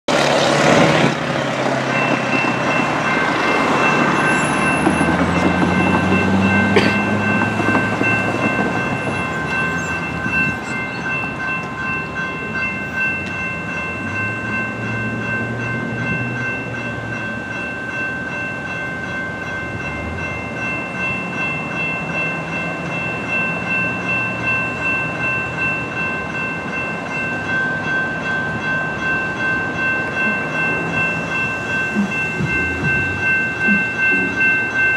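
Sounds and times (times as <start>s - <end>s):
train wheel and rail noise: 0.1s - 34.9s
electronic crossing bell ringing: 1.8s - 34.9s.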